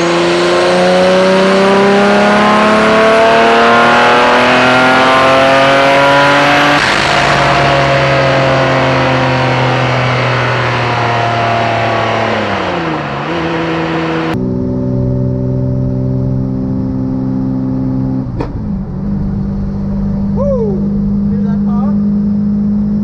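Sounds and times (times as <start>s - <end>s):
turbocharged car engine accelerating: 0.0s - 23.0s.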